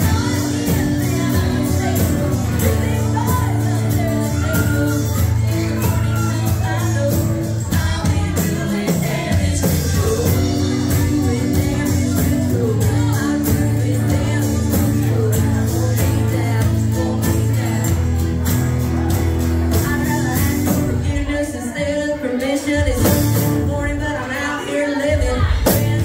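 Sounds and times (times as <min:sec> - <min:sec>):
acoustic guitars: 0:00.0 - 0:26.0
drums with steady beat: 0:00.0 - 0:26.0
lead vocal: 0:00.0 - 0:26.0.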